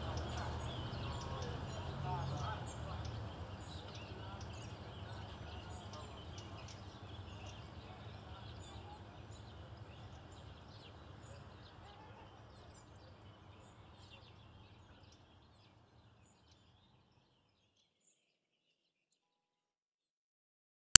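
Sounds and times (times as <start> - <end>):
birds chirping: 0.0 - 18.2.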